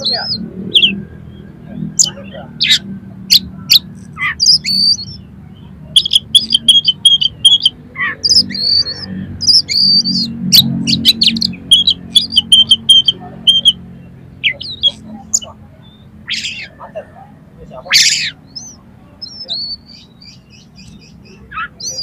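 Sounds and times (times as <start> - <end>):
bird singing chattering song: 0.0 - 22.0.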